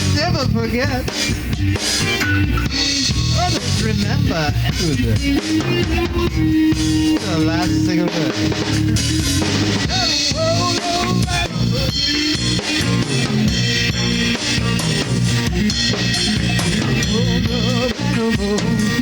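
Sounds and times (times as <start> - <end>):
rock band playing: 0.0 - 19.0
wavering lead guitar line: 0.0 - 19.0.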